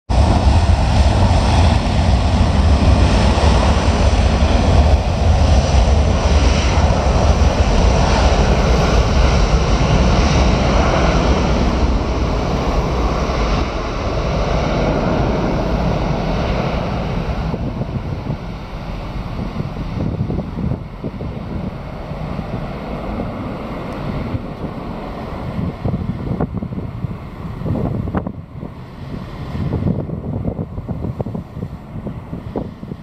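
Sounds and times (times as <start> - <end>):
jet engines at take-off power: 0.1 - 33.0.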